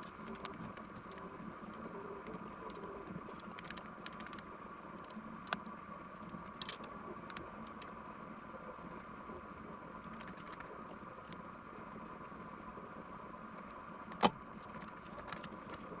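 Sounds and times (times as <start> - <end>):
faint steady hum: 0.0 - 16.0
small clicks and crackles: 0.0 - 16.0.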